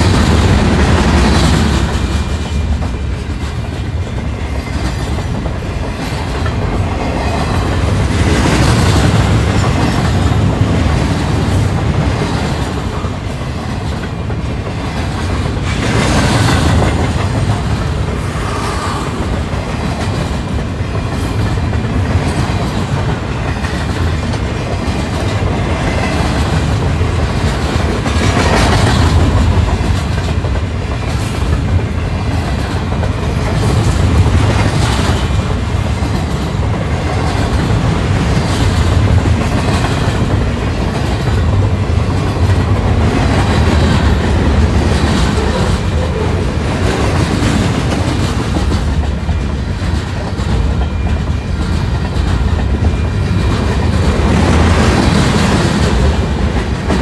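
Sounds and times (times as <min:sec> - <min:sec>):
freight train rumbling: 0:00.0 - 0:57.0
train wheels clicking: 0:00.0 - 0:57.0.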